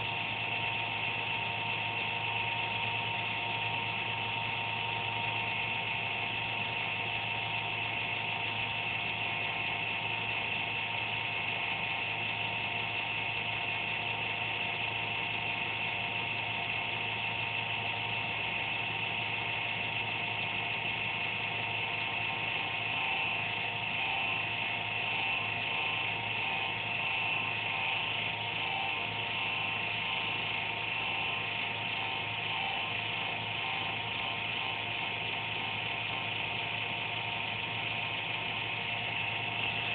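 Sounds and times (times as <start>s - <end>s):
computer electrical buzz and whine: 0.0s - 39.9s.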